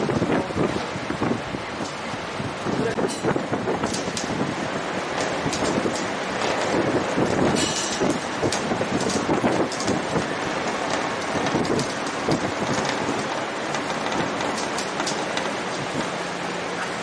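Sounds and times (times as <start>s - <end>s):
low thumps of wind gusts: 0.0s - 17.0s
strong wind buffeting microphone: 0.0s - 17.0s.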